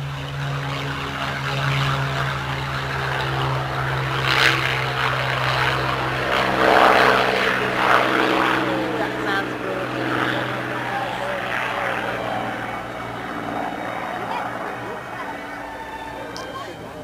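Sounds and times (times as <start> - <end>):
propeller aircraft engine running: 0.0 - 17.0.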